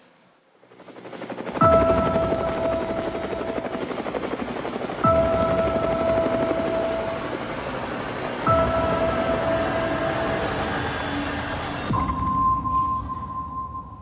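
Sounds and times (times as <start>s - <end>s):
helicopter rotor chopping: 0.6s - 12.0s
held synth chord: 1.5s - 13.7s.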